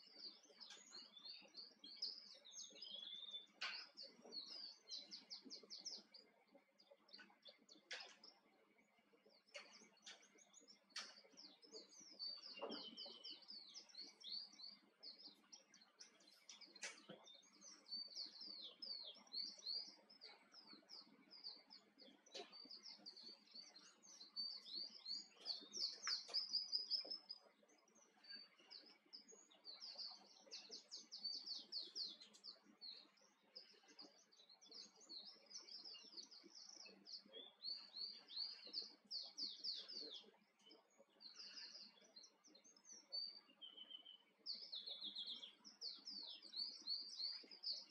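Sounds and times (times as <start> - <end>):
canary singing: 0.0 - 8.4, 9.3 - 47.9.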